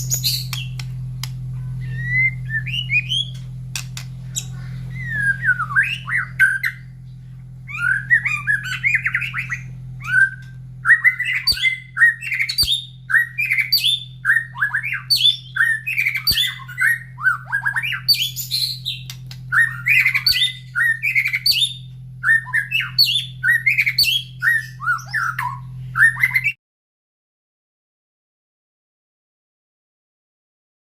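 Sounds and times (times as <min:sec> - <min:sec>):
songbird singing: 0:00.0 - 0:26.5.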